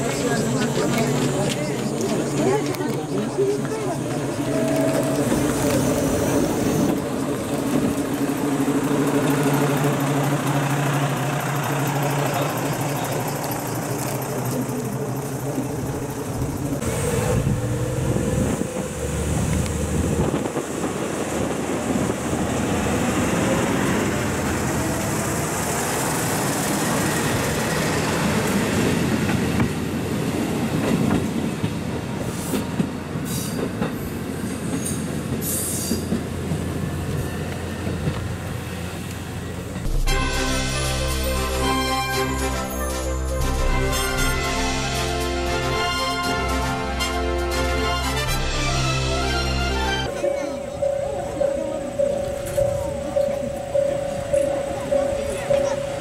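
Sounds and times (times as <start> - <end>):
wheels clattering on rails: 0.0 - 39.9, 50.0 - 56.0
diesel railcar engine running: 0.0 - 56.0.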